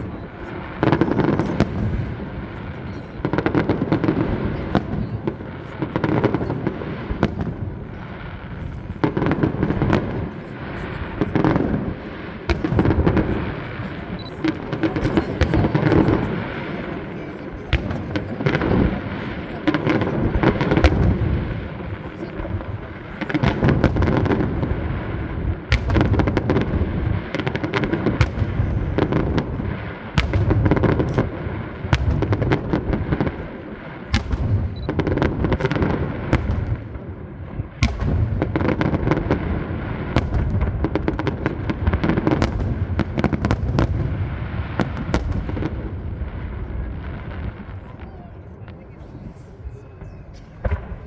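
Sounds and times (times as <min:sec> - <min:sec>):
fireworks booming rumble: 0:00.0 - 0:51.0
fireworks cracking and crackling: 0:00.0 - 0:51.0.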